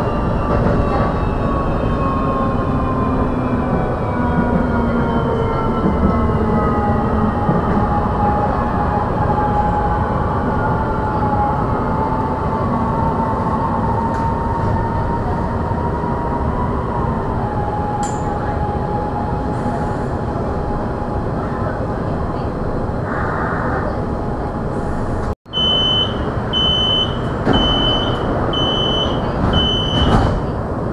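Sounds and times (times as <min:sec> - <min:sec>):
train wheels rumbling on track: 0:00.0 - 0:30.9.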